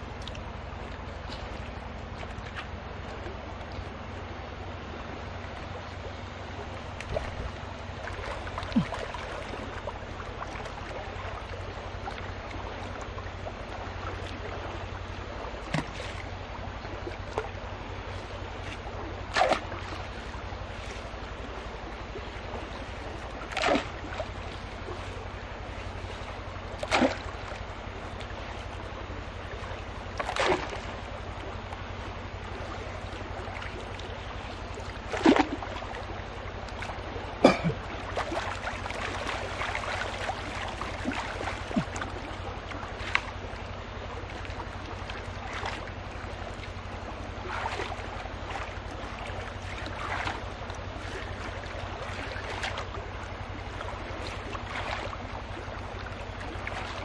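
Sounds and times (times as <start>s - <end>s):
low hum: 0.0s - 57.0s
water sloshing and splashing: 0.0s - 57.0s.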